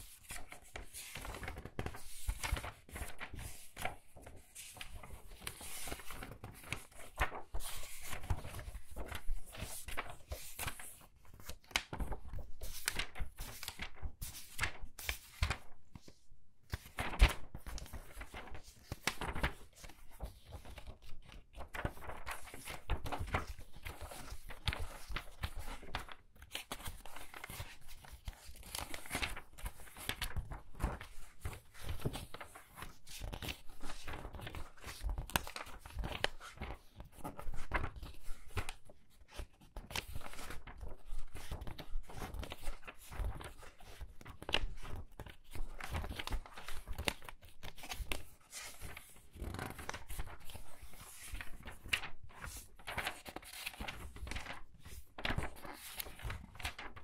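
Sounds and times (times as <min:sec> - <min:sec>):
book pages turning quickly: 0:00.1 - 0:15.7, 0:16.7 - 0:38.8, 0:39.4 - 0:57.0.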